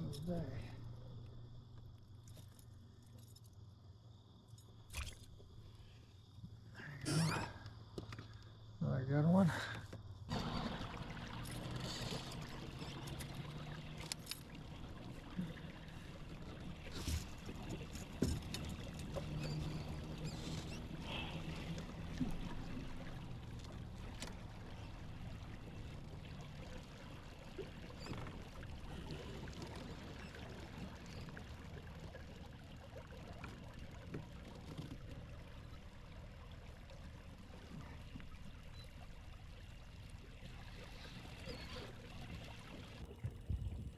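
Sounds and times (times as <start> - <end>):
water lapping and trickling: 0.0 - 43.9.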